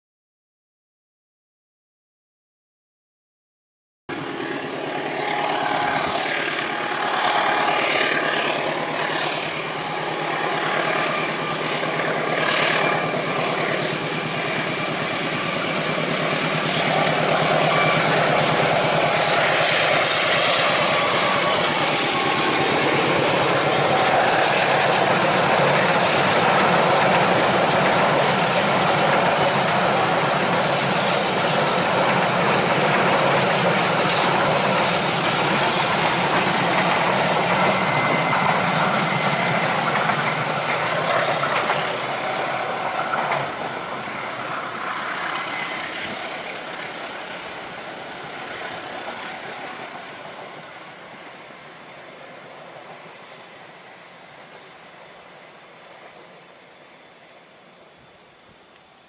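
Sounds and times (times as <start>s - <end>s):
locomotive engine working hard: 4.1s - 54.6s
train wheels rolling on rails: 4.2s - 58.2s.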